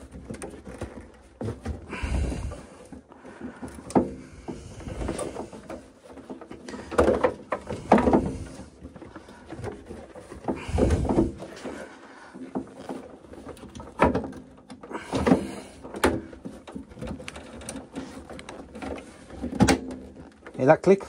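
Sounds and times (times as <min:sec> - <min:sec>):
plastic part scraping and rubbing: 0:00.0 - 0:21.0.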